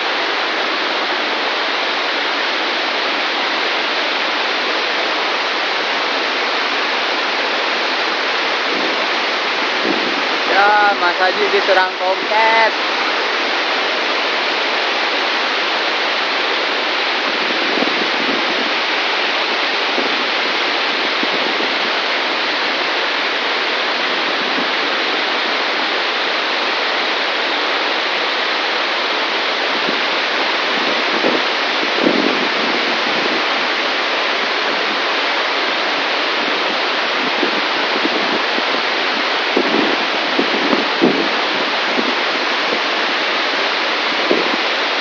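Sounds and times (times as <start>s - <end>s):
waterfall and stream rushing: 0.0s - 45.0s.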